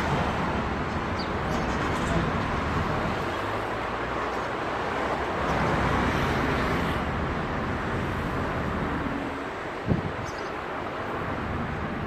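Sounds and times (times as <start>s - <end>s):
road vehicles passing: 0.0s - 12.0s.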